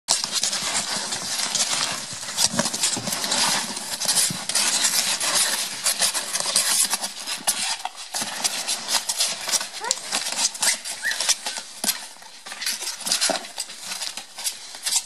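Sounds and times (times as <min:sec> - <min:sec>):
puppies scrabbling and rustling: 0:00.1 - 0:15.0.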